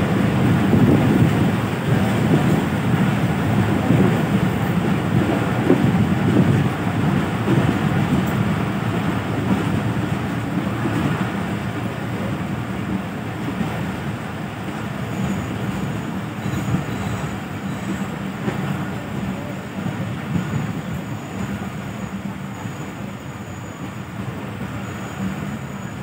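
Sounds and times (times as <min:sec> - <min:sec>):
wind buffeting microphone: 0:00.0 - 0:22.0
train wheels rumbling on rails: 0:00.0 - 0:26.0.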